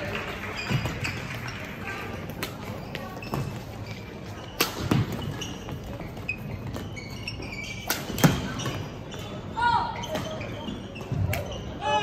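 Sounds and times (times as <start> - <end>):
shoe squeaks: 0.5 - 2.0, 2.6 - 12.0.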